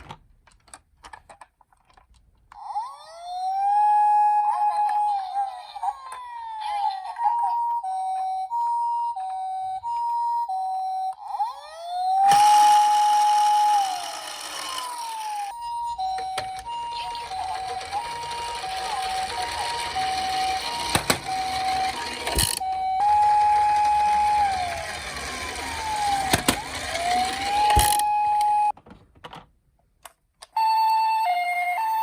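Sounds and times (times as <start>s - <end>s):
wailing siren: 2.6s - 28.8s
two-note ambulance siren: 2.7s - 28.8s, 30.6s - 32.0s.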